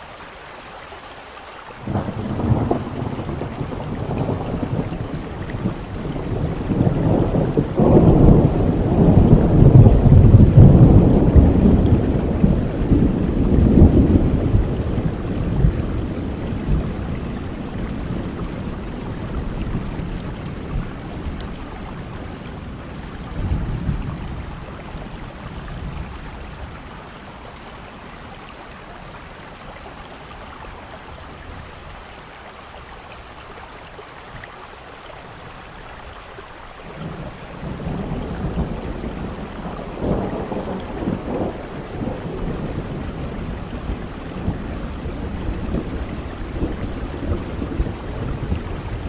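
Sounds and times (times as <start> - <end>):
steady rain: 0.0 - 49.0
thunder rumbling: 1.8 - 29.4, 36.9 - 49.0.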